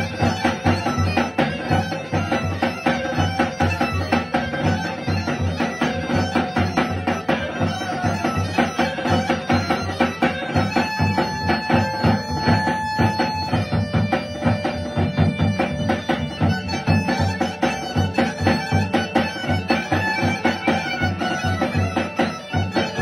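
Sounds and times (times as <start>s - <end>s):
accordion: 0.0s - 23.0s
bagpipe and clarinet melody: 0.0s - 23.0s
fast steady drum beat: 0.0s - 23.0s.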